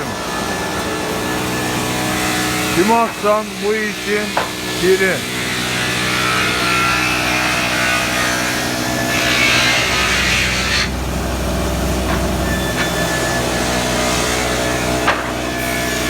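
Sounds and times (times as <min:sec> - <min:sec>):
sawmill machine humming: 0:00.0 - 0:16.0
saws cutting timber: 0:00.0 - 0:16.0.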